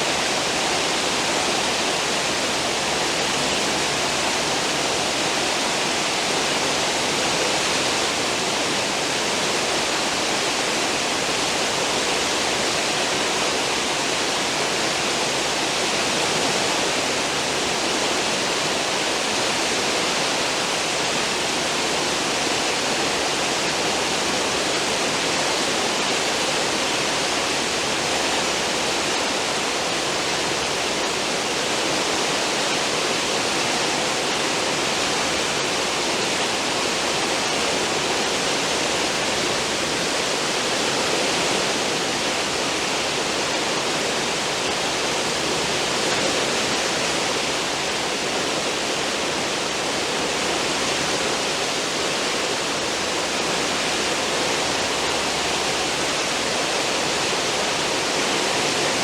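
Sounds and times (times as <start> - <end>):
churning foaming water: 0.0 - 59.0.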